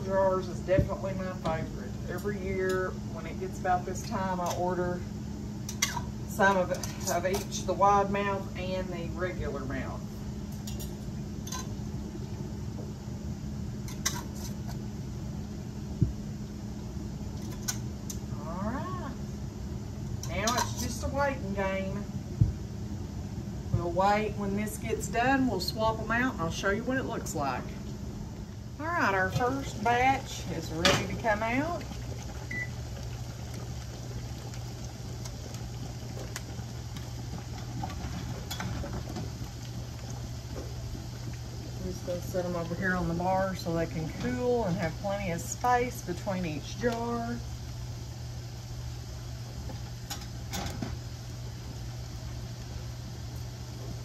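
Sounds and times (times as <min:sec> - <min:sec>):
low appliance hum: 0:00.0 - 0:54.0.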